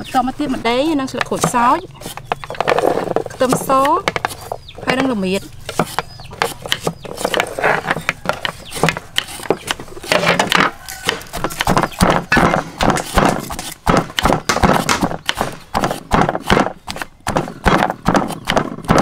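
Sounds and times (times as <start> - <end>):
stone pestle pounding in mortar: 1.1 - 19.0.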